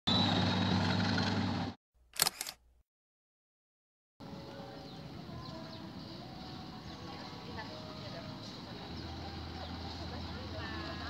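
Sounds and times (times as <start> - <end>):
outdoor background noise: 0.1 - 2.7, 4.2 - 11.0.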